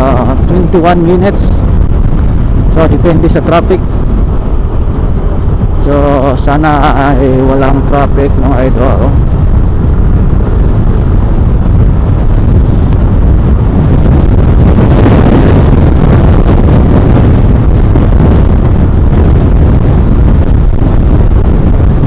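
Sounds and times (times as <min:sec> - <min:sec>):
road and engine rumble: 0:00.0 - 0:22.0
wind buffeting microphone: 0:00.0 - 0:22.0.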